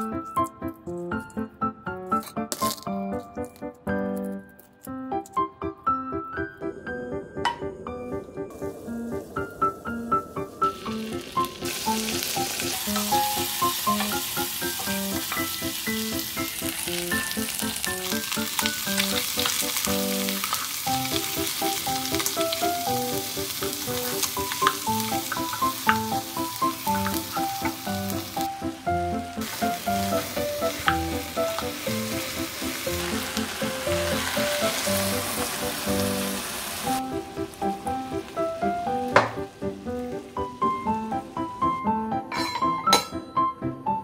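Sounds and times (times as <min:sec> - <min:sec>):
eggs and onions sizzling: 0:00.0 - 0:42.8
light background music: 0:00.0 - 0:44.0.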